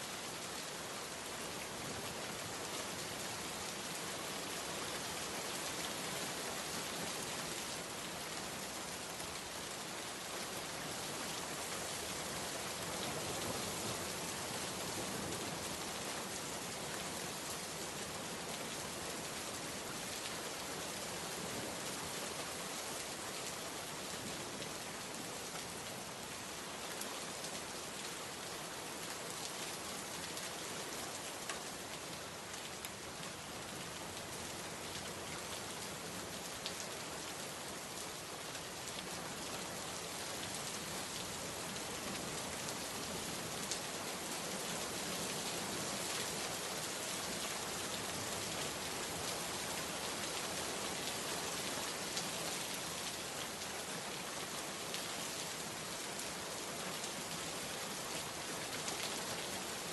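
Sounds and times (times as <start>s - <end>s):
heavy rain falling: 0.3s - 59.9s.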